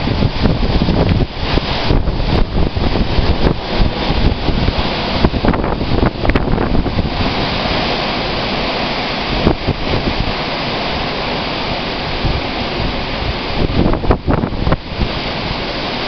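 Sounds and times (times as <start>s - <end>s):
storm wind with heavy rain: 0.0s - 16.0s
wind gusts buffeting microphone: 0.0s - 16.0s.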